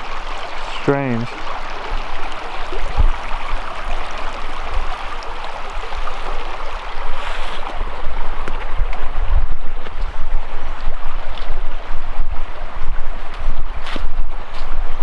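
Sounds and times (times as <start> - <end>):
creek water trickling over rocks: 0.0 - 15.0.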